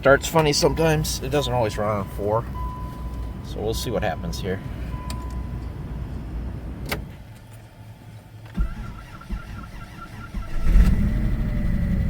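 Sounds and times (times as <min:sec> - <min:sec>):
car engine cranking and idling: 0:00.0 - 0:12.0.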